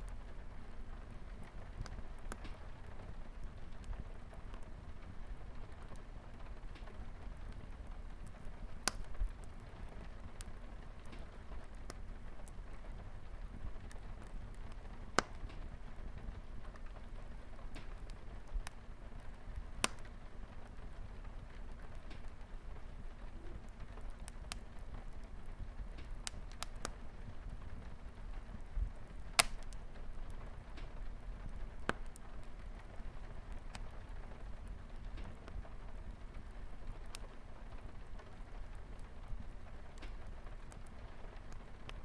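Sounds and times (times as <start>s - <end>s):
rain pattering on a window: 0.0s - 42.0s
wood fire crackling: 0.0s - 42.0s.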